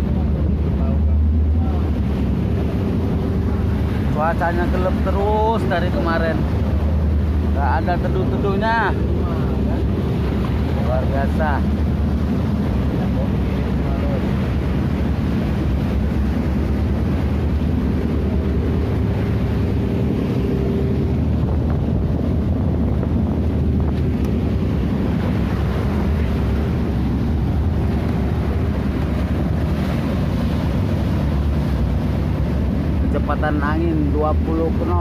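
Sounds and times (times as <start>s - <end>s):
motorboat engine running: 0.0s - 35.0s
wake churning: 0.0s - 35.0s
wind buffeting microphone: 0.0s - 35.0s.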